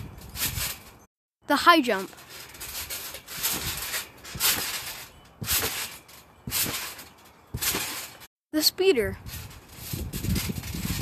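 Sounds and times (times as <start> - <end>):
trampoline bouncing swish: 0.0 - 11.0.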